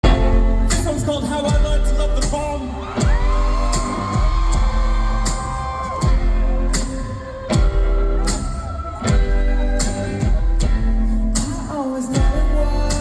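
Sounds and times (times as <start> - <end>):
sliding deep bass notes: 0.0 - 11.6
live pop band: 0.0 - 13.0
person singing: 0.0 - 13.0.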